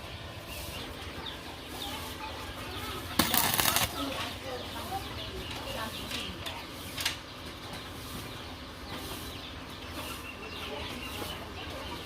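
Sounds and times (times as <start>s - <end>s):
farmyard birds chirping and clucking: 0.0s - 12.0s.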